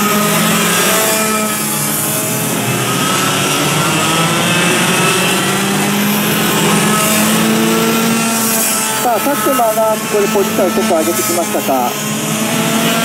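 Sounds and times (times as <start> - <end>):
kart engines racing: 0.0 - 13.0.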